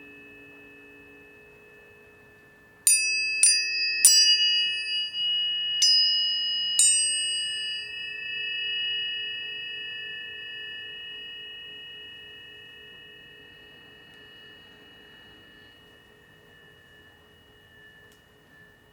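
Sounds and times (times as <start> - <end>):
tuning forks ringing: 0.0 - 18.9
tuning forks struck: 0.0 - 18.9.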